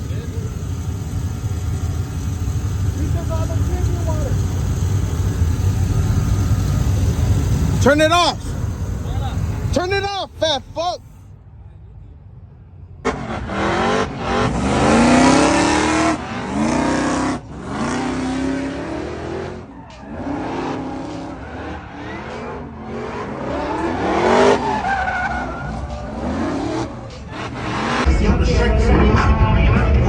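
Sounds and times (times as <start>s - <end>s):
car engine revving: 0.0s - 11.2s, 13.0s - 28.1s.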